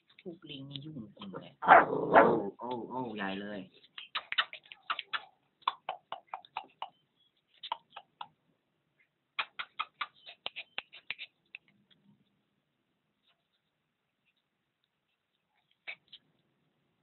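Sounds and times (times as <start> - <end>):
puppies play-fighting: 0.0 - 12.0, 13.2 - 16.5.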